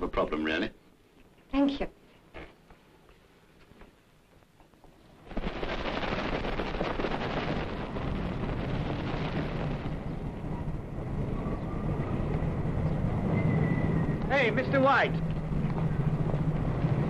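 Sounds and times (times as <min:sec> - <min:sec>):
street noise rumbling: 0:00.0 - 0:17.0.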